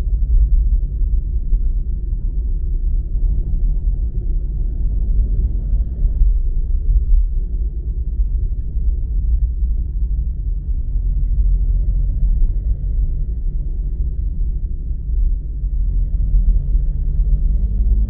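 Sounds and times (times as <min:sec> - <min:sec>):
car interior road and engine noise: 0:00.0 - 0:18.0.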